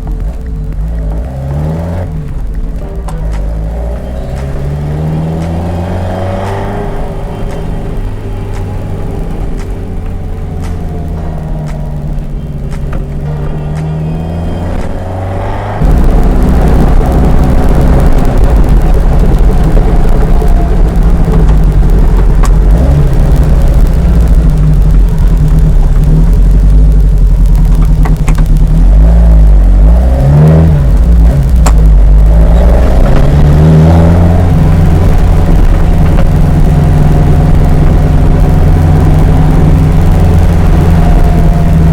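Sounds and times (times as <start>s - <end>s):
road rumble: 0.0s - 41.9s
sports car engine: 0.0s - 41.9s.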